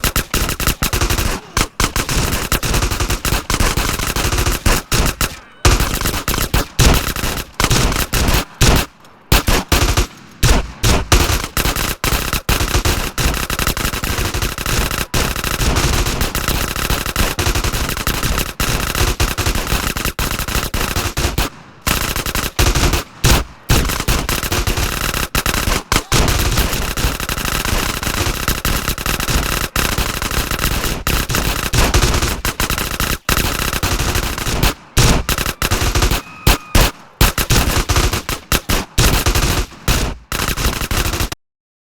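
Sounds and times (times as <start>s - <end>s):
heavy automatic gunfire: 0.0s - 41.4s.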